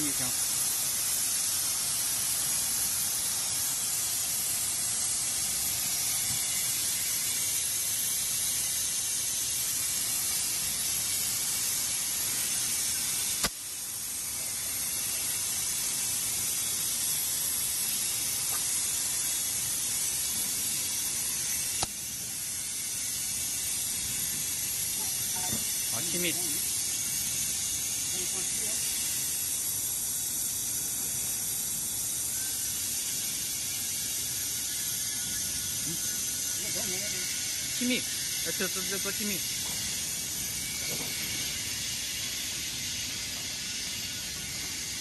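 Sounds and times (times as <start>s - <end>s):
gas hissing into cylinders: 0.0s - 45.0s.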